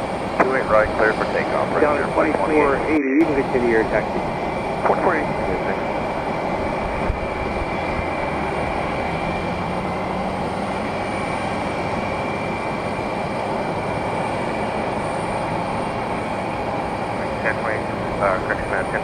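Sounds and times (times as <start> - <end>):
jet engine roar with whine: 0.0 - 19.0.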